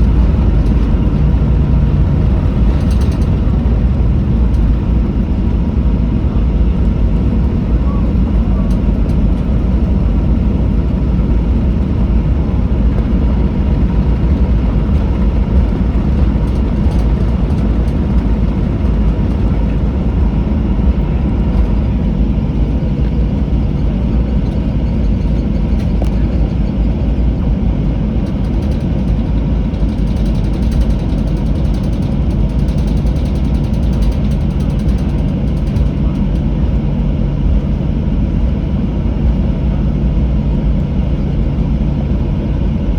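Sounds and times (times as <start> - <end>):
jet engine cabin rumble: 0.0 - 42.9
steady low hum: 0.0 - 42.9.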